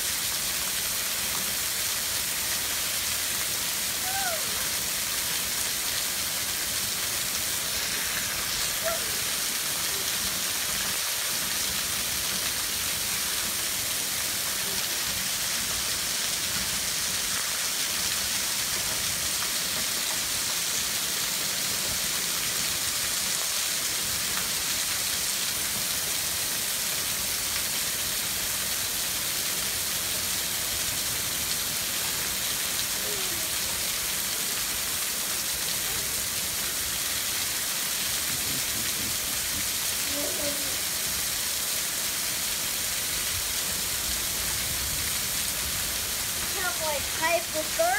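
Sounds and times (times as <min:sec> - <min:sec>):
heavy rain: 0:00.0 - 0:47.9
water pouring onto concrete: 0:00.0 - 0:47.9.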